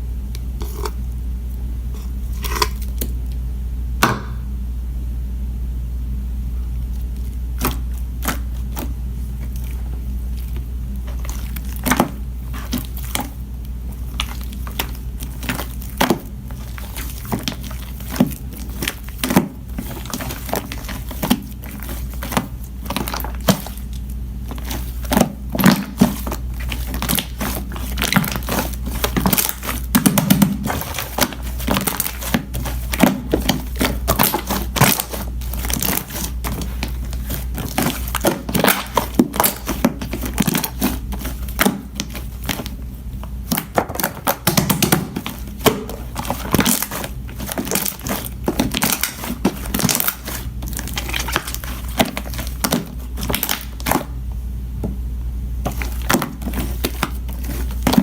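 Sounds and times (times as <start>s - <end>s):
steady low hum: 0.0s - 58.0s
crinkling and crackling when squeezed: 6.8s - 54.2s, 55.6s - 58.0s.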